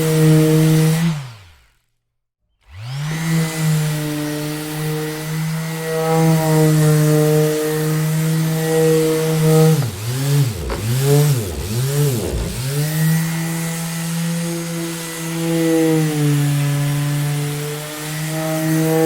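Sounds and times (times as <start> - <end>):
electric orbital sander running: 2.7 - 19.0.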